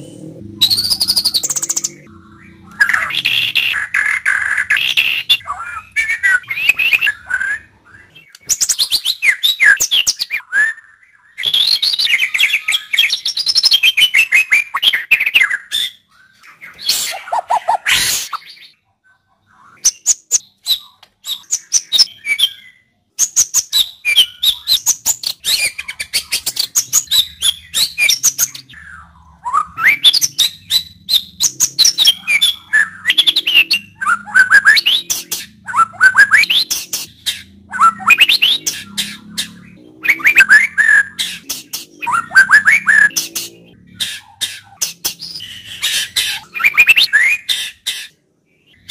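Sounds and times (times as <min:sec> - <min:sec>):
bird singing: 0:00.0 - 0:48.9.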